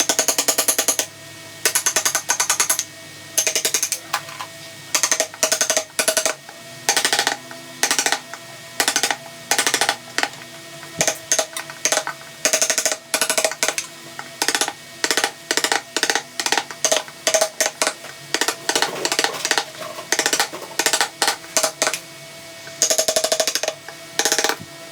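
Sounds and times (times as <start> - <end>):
rapid tapping bursts: 1.7 - 2.8, 3.4 - 4.0, 4.9 - 22.0, 22.7 - 24.6.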